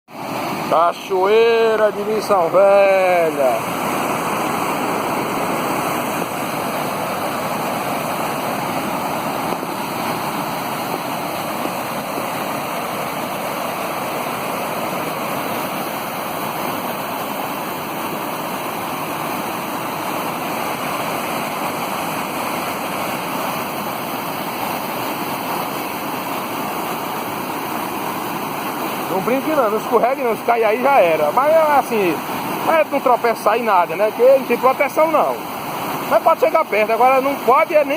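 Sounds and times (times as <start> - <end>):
waterfall roaring: 0.1 - 37.9.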